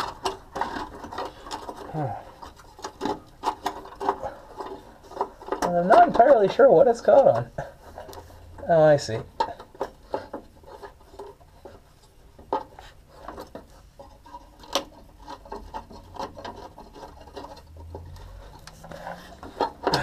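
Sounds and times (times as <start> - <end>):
rubbing and scraping: 0.0 - 20.0.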